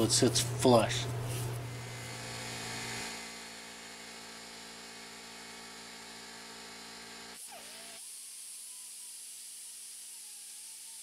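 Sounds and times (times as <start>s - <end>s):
pneumatic wire wheel grinder running: 1.8s - 11.0s.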